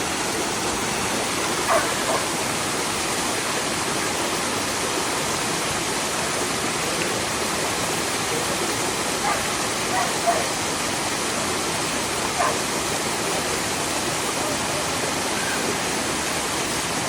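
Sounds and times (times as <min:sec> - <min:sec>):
running water rushing: 0:00.0 - 0:17.0
water splashes: 0:00.0 - 0:17.0.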